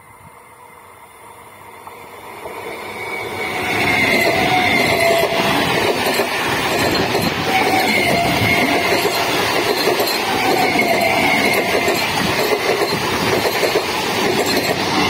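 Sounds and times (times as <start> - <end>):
train passing on rails: 0.0 - 15.0
train wheels squealing: 1.6 - 15.0.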